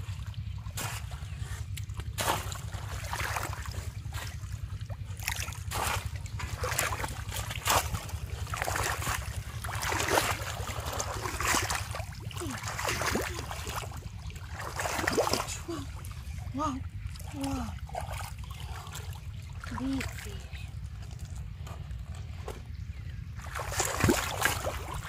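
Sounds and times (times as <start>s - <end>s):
muddy water sloshing and splashing: 0.0s - 25.0s
steady low rumble: 0.0s - 25.0s.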